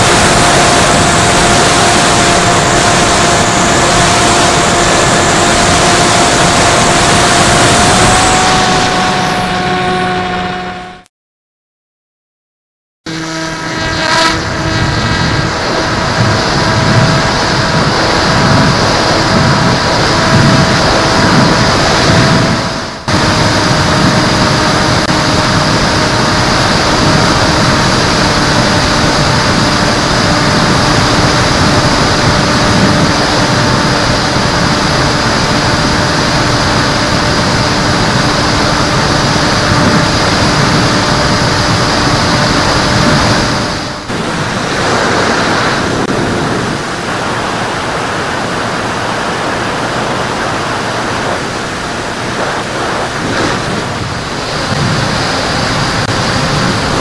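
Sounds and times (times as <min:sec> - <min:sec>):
wind rush: 0:00.0 - 0:10.8, 0:13.1 - 0:57.0
motor and propeller hum: 0:00.0 - 0:11.1, 0:13.1 - 0:57.0
wind noise on microphone: 0:00.0 - 0:11.1, 0:13.1 - 0:57.0.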